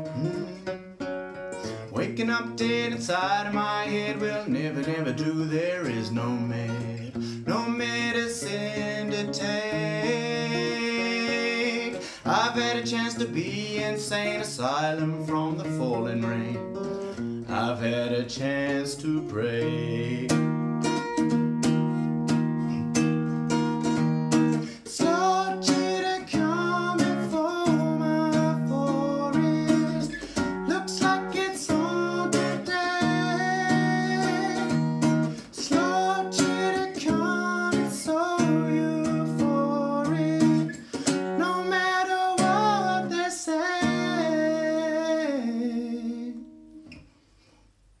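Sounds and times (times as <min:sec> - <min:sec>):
man singing: 0:00.0 - 0:00.8, 0:01.6 - 0:21.2, 0:24.4 - 0:46.7
acoustic guitar strumming chords: 0:00.0 - 0:47.3.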